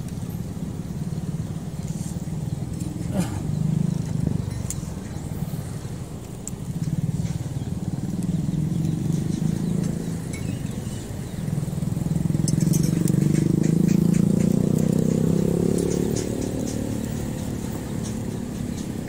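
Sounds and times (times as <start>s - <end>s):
motorcycles passing: 0.0s - 19.0s.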